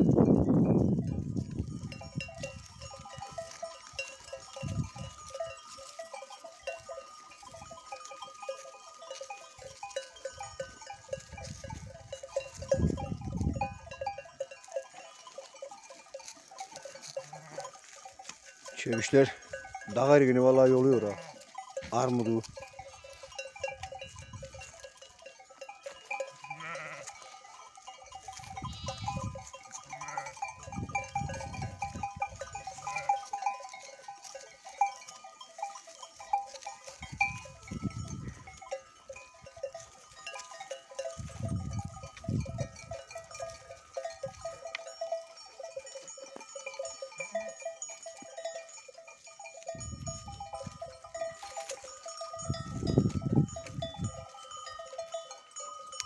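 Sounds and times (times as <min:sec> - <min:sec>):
livestock bells clinking: 0:00.0 - 0:56.0.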